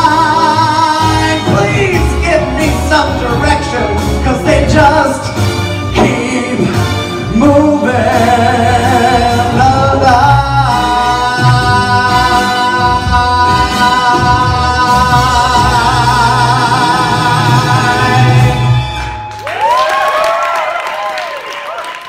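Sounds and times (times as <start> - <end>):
person singing: 0.0 - 19.0
grand piano: 0.0 - 19.3.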